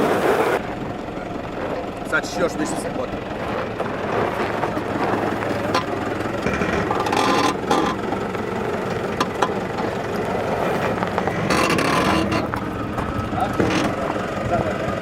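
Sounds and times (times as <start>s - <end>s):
vehicle engine running low speed: 0.0s - 15.0s.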